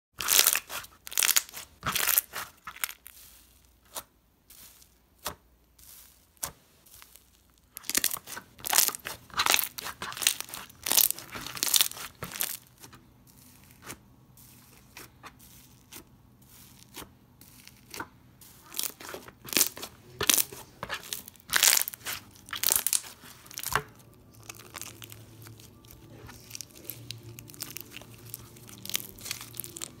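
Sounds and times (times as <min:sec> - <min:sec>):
crunchy slime crackling and popping: 0:00.2 - 0:04.1, 0:06.0 - 0:14.0, 0:15.9 - 0:30.0.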